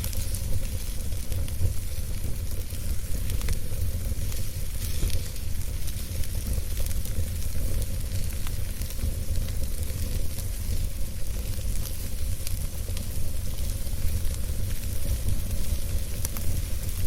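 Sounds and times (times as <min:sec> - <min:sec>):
campfire crackling and popping: 0:00.0 - 0:17.0
low rumble and hiss of fire: 0:00.0 - 0:17.0.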